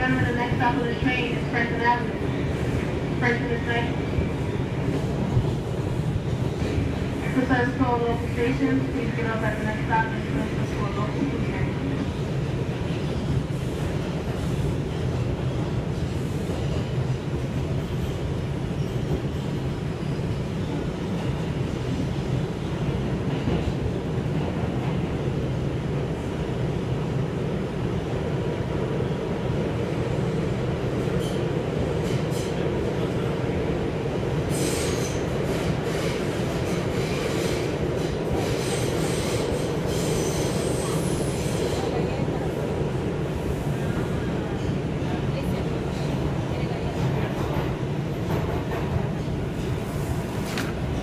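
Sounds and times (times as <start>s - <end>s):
rumble of wheels on rail: 0.0s - 51.0s.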